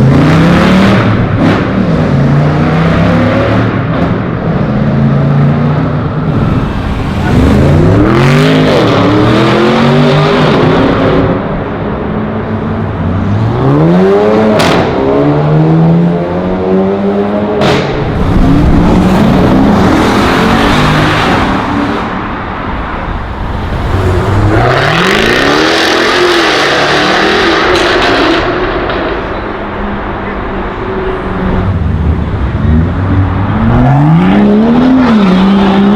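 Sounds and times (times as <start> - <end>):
sports car engines accelerating: 0.0 - 35.9.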